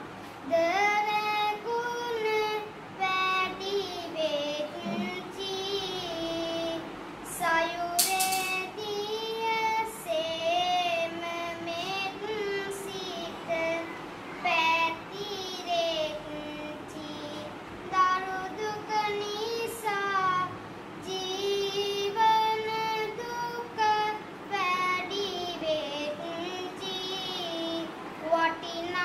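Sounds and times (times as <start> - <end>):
boy chanting: 0.4 - 29.0.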